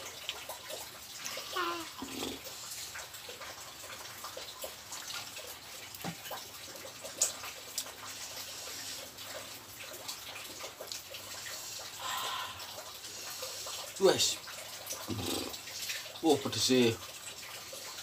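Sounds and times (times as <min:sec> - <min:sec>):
swallowing water: 0:00.0 - 0:16.2.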